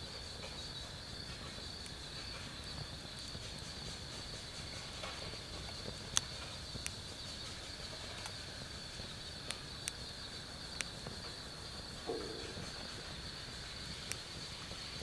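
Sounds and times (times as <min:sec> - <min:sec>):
night insects trilling: 0:00.0 - 0:15.0
wood fire crackling and popping: 0:00.1 - 0:15.0.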